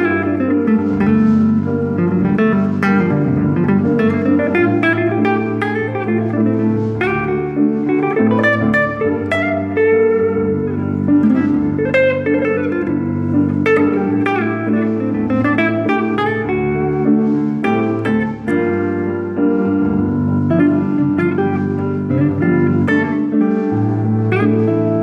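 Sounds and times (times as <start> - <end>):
guitar plucked melody: 0.0 - 25.0
held piano chords: 0.0 - 25.0.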